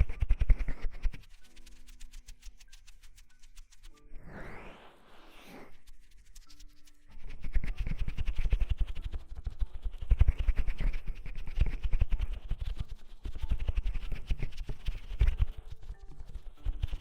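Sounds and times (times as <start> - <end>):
oiled hands rubbing microphone: 0.0 - 4.1, 4.9 - 17.0.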